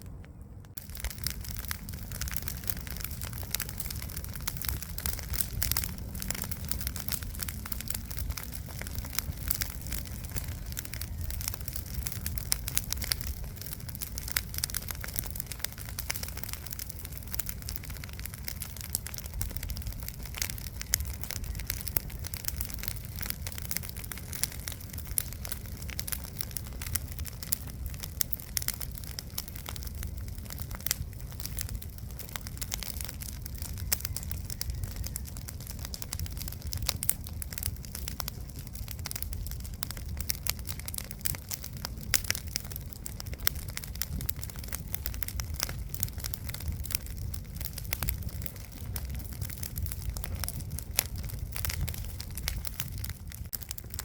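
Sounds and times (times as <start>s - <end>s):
campfire crackling and popping: 0.0s - 54.0s
steady low rumble: 0.0s - 54.0s.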